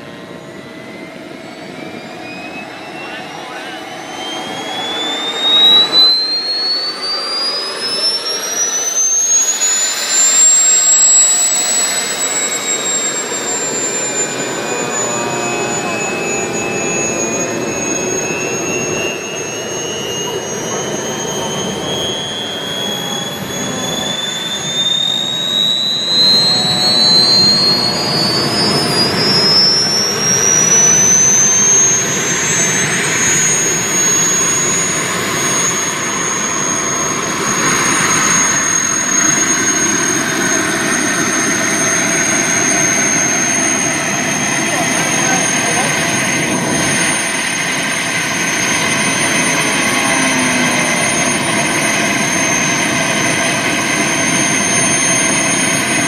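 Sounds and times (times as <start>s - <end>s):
jet engine whine rising: 0.0s - 56.0s
rush of jet noise: 0.0s - 56.0s
second jet engine whine: 0.0s - 56.0s.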